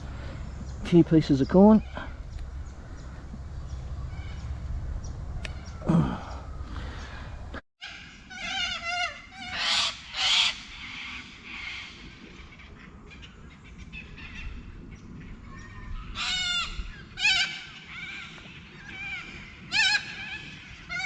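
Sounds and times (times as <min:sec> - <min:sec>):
birds harsh wavering calls: 0:00.0 - 0:21.0.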